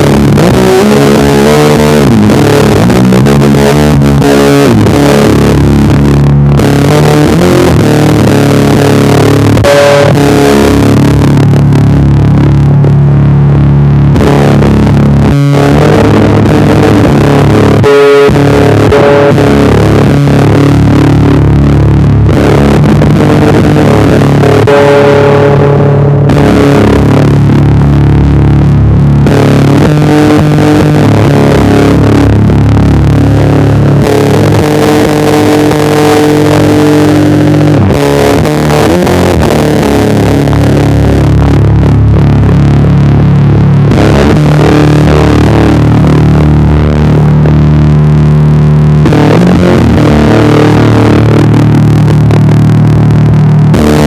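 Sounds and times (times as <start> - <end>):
distorted electric bass note: 0.0 - 54.0.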